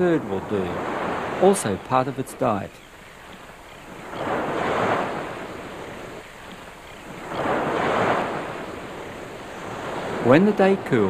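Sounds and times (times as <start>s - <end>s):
small waves washing on beach: 0.0s - 11.0s.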